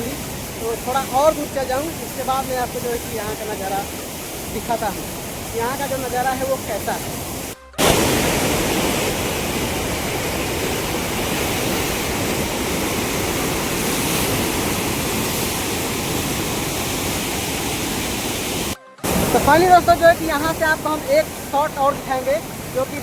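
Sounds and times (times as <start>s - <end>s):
floodwater rushing through gates: 0.0s - 23.0s.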